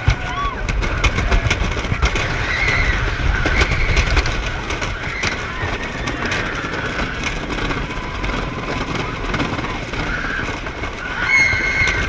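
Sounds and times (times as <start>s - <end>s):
rapid clattering clicks: 0.0s - 12.0s
roller coaster rumbling on track: 0.0s - 12.0s.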